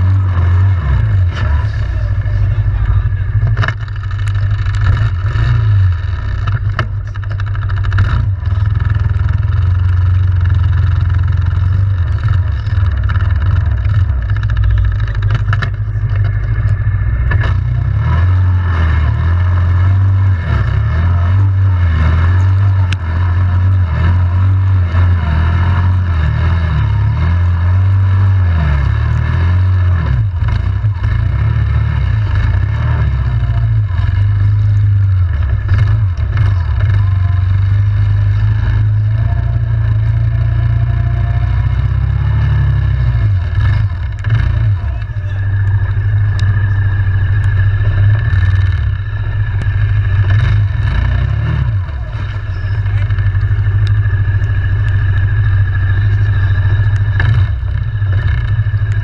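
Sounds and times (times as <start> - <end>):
atv engine droning: 0.0 - 59.0
scattered clatter: 0.0 - 59.0.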